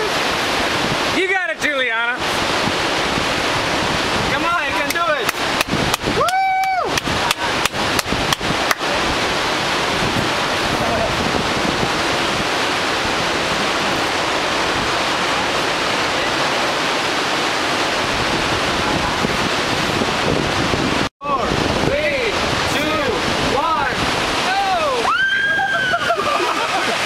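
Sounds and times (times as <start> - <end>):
steady rushing wind or water: 0.0 - 27.0.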